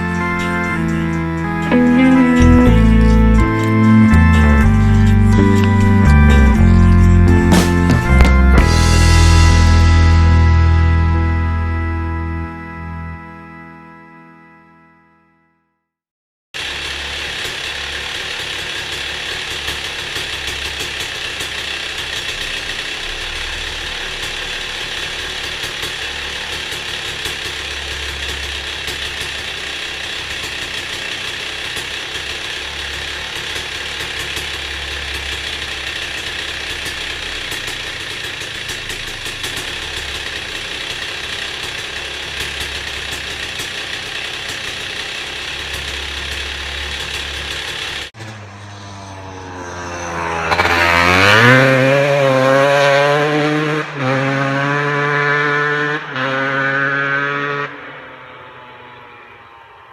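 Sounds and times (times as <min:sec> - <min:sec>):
two-stroke engine running: 0:00.0 - 0:10.8, 0:16.6 - 0:57.6.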